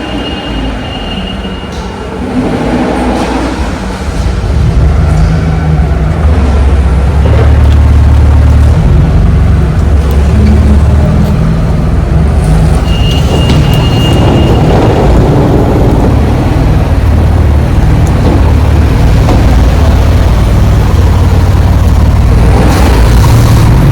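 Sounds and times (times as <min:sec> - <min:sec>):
diesel truck engine rumble: 0:03.8 - 0:23.9.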